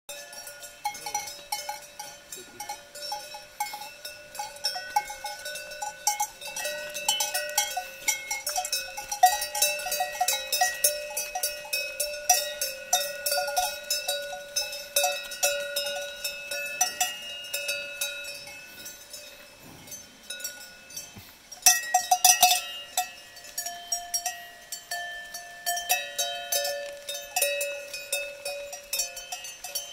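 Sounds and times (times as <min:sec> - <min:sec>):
cowbells clanking: 0:00.1 - 0:29.9.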